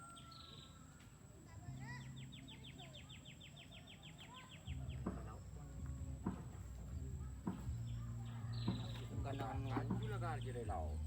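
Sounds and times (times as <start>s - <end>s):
birds chirping softly: 0.0s - 11.0s.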